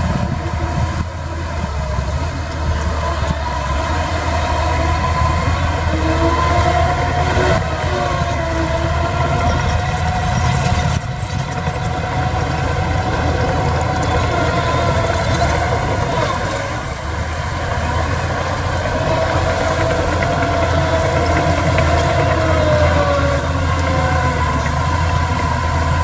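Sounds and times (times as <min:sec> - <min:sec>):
heavy machine engine rumble: 0:00.0 - 0:26.0.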